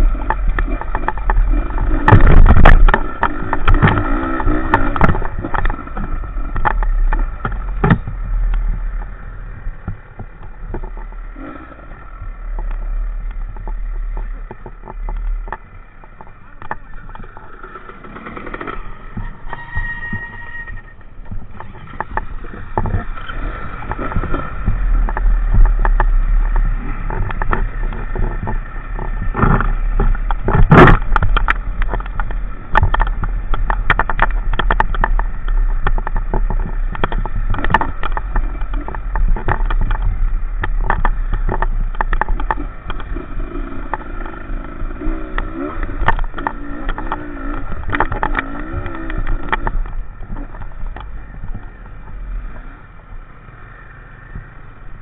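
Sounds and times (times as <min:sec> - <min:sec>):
sharp knocks and rattles: 0:00.0 - 0:52.3
motorcycle engine rumble: 0:00.0 - 0:55.0.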